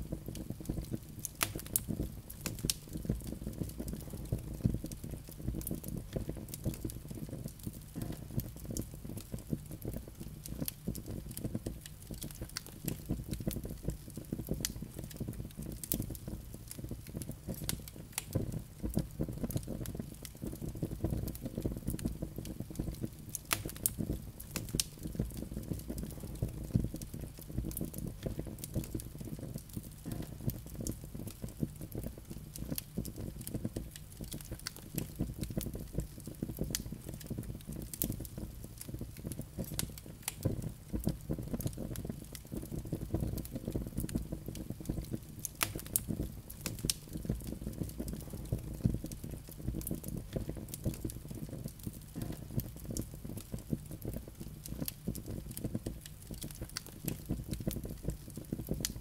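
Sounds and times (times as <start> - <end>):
fire flames rumbling: 0.0 - 59.0
wood crackling and popping: 0.0 - 59.0.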